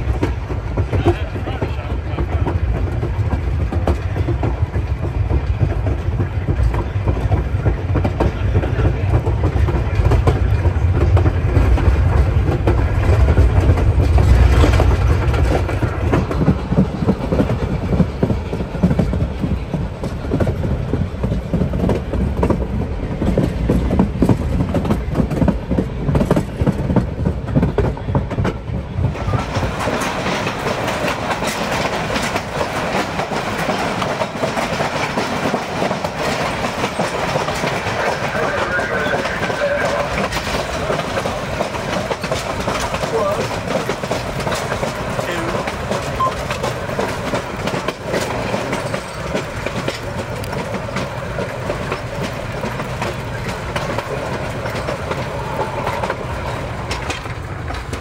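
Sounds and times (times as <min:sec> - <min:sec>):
hissy clatter: 0:00.0 - 0:58.0
train wheels clacking over rail joints: 0:00.0 - 0:58.0.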